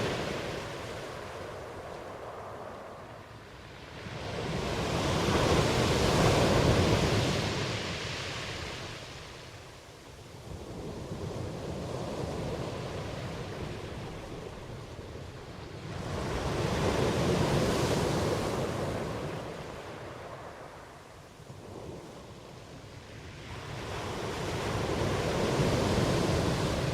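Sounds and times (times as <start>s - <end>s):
ocean waves washing ashore: 0.0s - 26.9s.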